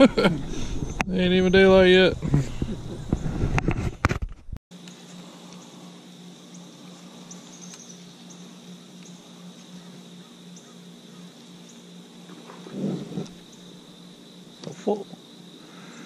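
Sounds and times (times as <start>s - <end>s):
insects chirping: 0.0s - 3.6s, 4.7s - 16.0s
low steady hum: 0.0s - 3.6s, 4.8s - 16.0s.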